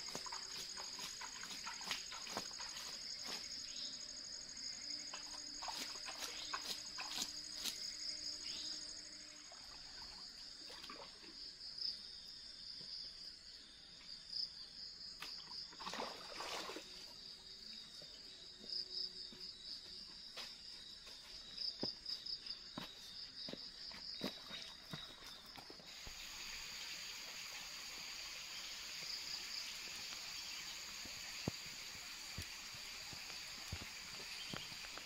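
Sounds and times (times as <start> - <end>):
forest insects chorus: 0.0 - 35.0.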